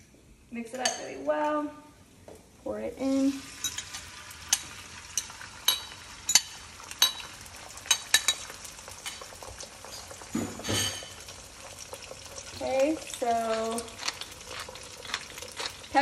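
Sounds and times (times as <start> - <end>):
eggs sizzling in a wok: 2.0 - 16.0.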